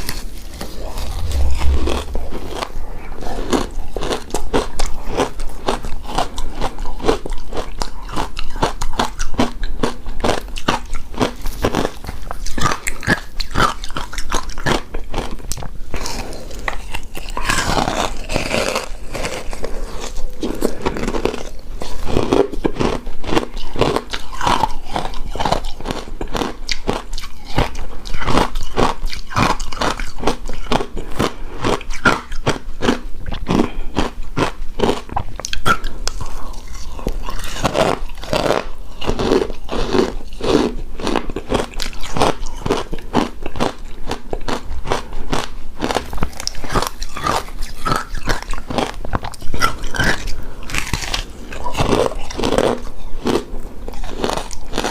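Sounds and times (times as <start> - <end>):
crunching shaved ice: 3.5 - 54.9.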